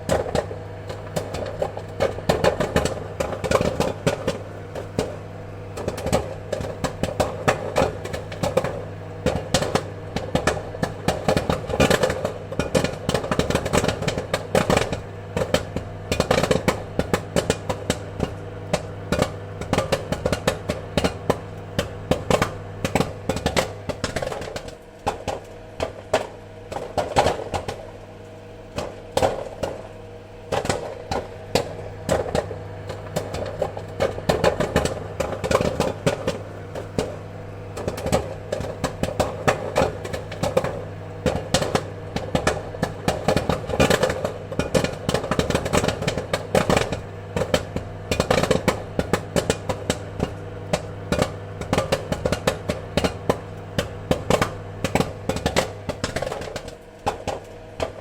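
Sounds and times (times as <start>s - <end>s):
popcorn popping: 0.0s - 58.0s
steady low hum: 0.0s - 58.0s.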